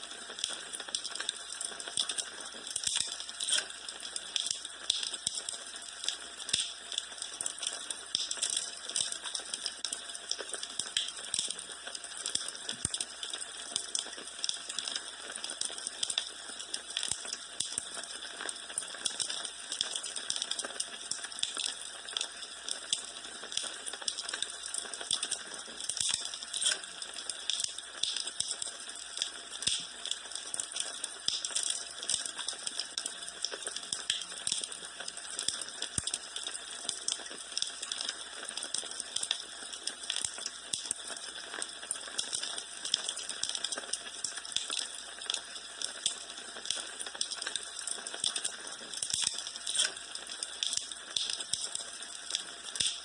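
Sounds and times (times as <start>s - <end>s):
wood fire crackling: 0.3s - 53.0s.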